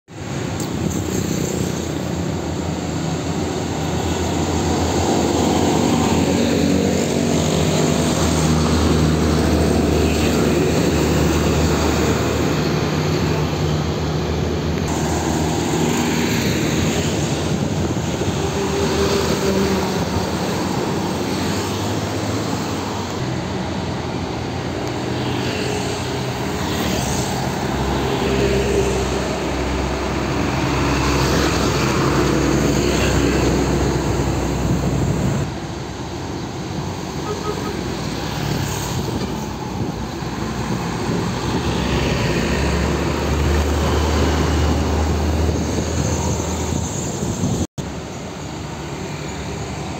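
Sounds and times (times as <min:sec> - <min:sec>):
trucks and motorcycles driving past: 0:00.2 - 0:49.9.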